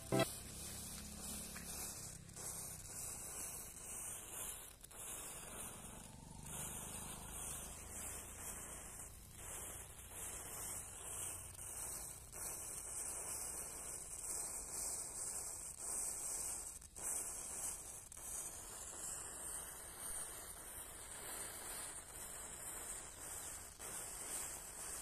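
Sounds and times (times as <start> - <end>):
matchsticks burning hiss: 0.0 - 25.0.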